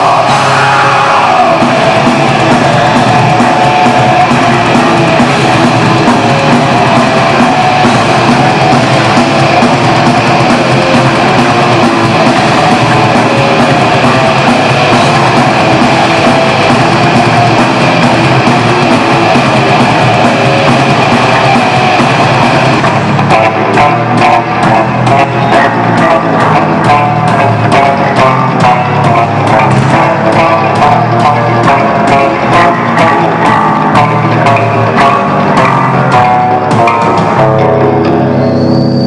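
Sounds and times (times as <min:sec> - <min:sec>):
heavy metal band playing: 0:00.0 - 0:39.0.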